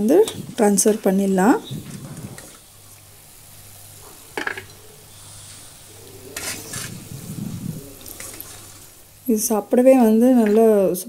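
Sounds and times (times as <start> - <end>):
oil sizzling faintly: 0.0 - 11.0.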